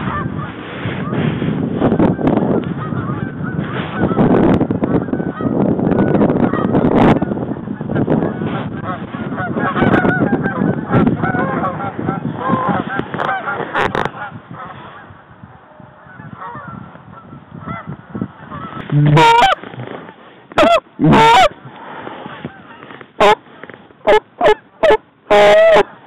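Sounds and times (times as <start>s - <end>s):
geese honking: 1.9s - 15.1s, 16.0s - 21.6s, 22.2s - 23.4s, 24.0s - 25.9s.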